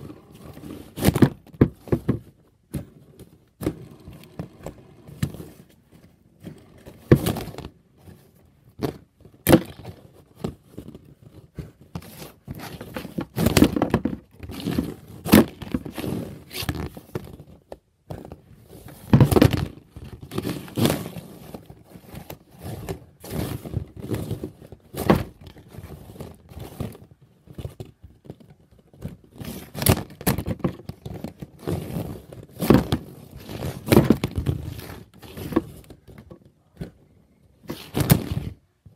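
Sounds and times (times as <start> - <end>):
plastic scraping over cardboard: 0.0 - 37.0.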